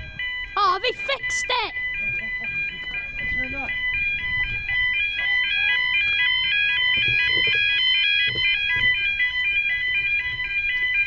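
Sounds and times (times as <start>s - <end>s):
level crossing alarm tones: 0.0s - 11.0s.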